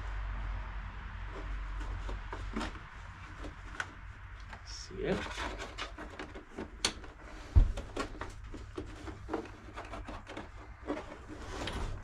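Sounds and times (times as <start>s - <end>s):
cable scraping and rubbing: 1.2s - 12.0s.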